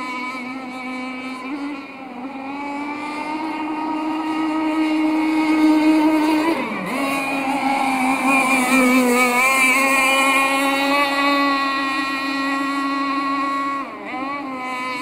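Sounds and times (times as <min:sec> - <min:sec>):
model boat engine at high revs: 0:00.0 - 0:15.0.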